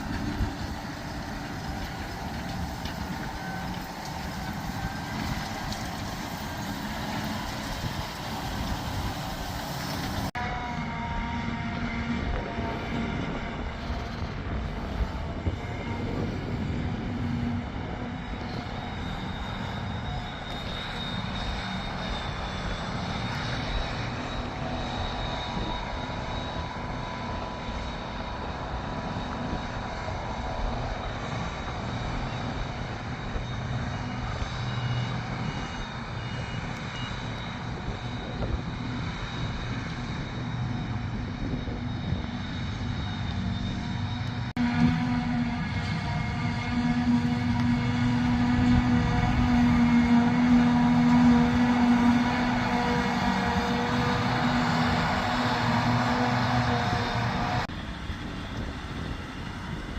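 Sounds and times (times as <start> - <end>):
thin high whine: 0.0 - 29.8, 31.0 - 59.8
diesel farm machinery droning: 0.0 - 59.9.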